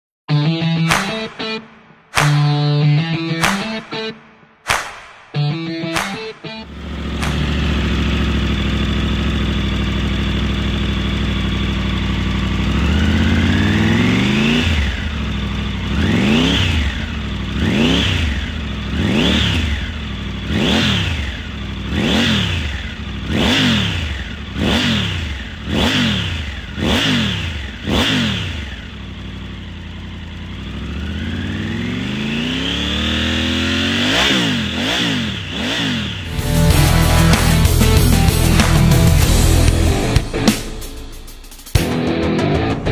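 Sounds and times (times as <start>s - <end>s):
motorcycle engine revving: 5.4s - 42.9s.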